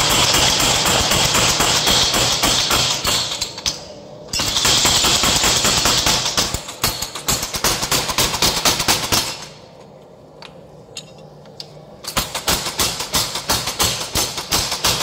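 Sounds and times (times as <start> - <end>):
power hammer striking hot steel: 0.0 - 9.5, 12.1 - 15.0.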